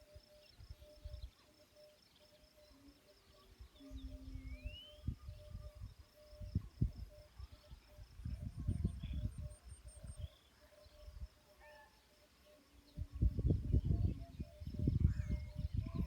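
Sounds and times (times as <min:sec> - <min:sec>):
bird chirps: 0:00.0 - 0:16.0
insects trilling: 0:00.0 - 0:16.0.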